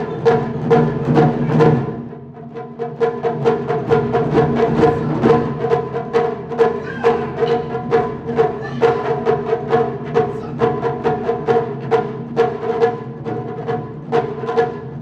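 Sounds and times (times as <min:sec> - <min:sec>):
taiko drums struck: 0:00.0 - 0:15.0.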